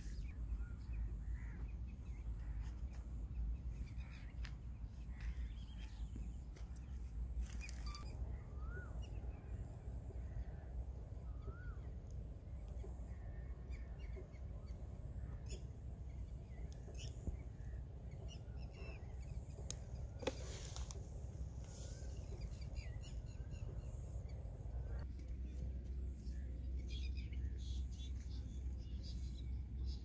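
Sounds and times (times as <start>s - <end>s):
bird calls: 0.0s - 30.0s.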